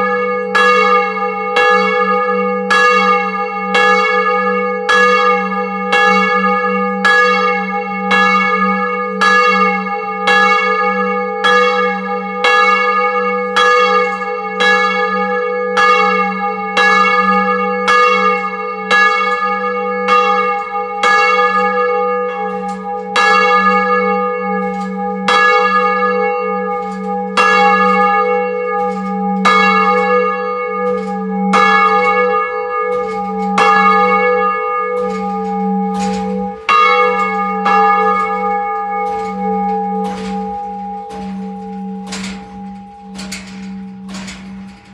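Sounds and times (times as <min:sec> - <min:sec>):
church bell ringing: 0:00.0 - 0:44.9
low bell hum: 0:00.0 - 0:44.9.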